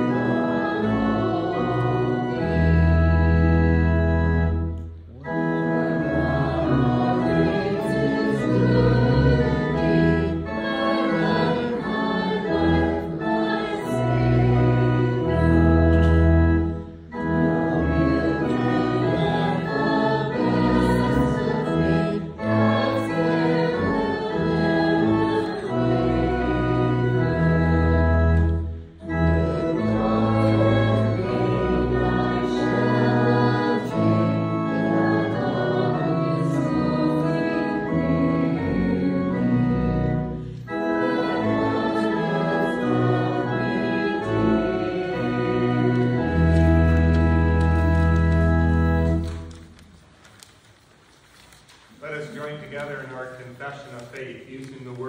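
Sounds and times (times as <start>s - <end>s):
congregation singing: 0.0s - 49.7s
church organ playing: 0.0s - 50.0s.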